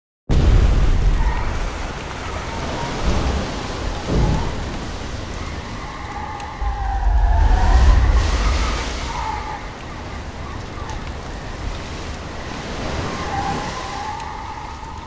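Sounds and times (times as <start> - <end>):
rolling thunder rumble: 0.3 - 14.8
heavy rain: 0.3 - 15.0.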